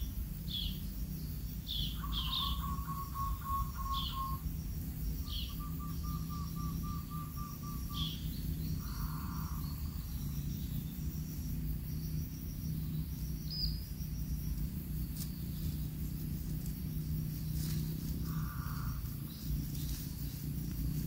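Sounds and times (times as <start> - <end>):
high insect chirps: 0.0 - 21.0
steady low rumble: 0.0 - 21.0.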